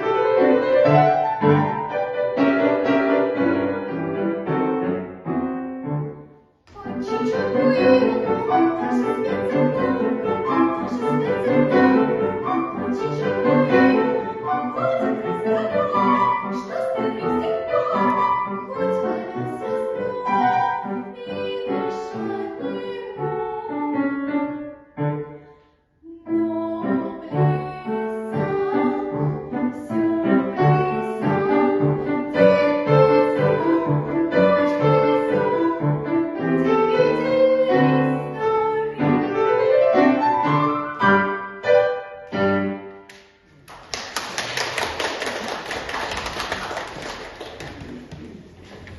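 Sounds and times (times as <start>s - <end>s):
classical piano piece: 0.0s - 43.6s.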